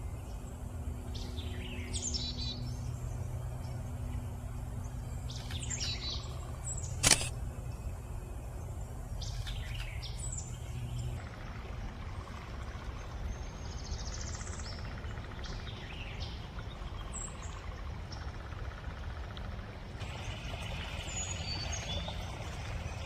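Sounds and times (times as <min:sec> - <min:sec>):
songbirds chirping: 0:00.0 - 0:23.0
steady low rumble: 0:00.0 - 0:23.0.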